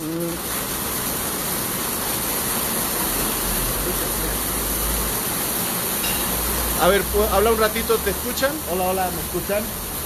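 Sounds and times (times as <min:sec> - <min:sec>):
hail drumming on roof: 0:00.0 - 0:10.0.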